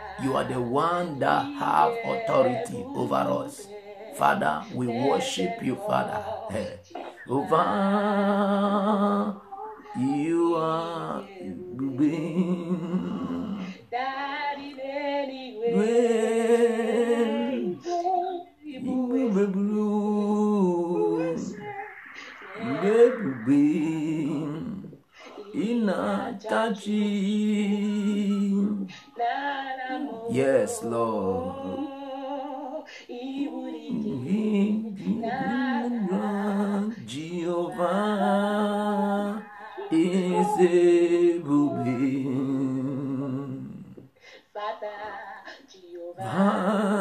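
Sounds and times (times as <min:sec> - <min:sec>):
person singing unaccompanied: 0:00.0 - 0:47.0.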